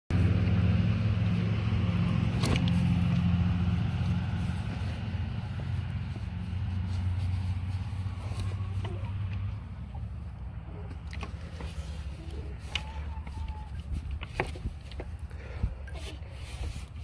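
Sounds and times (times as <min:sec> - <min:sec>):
engine humming: 0:00.1 - 0:17.0.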